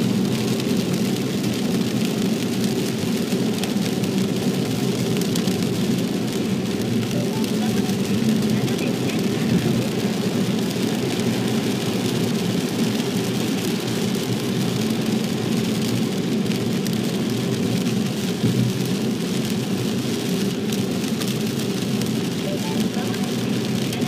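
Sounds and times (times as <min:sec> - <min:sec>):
low road rumble: 0:00.0 - 0:24.0
rain on windscreen and roof: 0:00.0 - 0:24.0
tyres hissing on wet road: 0:00.0 - 0:24.0.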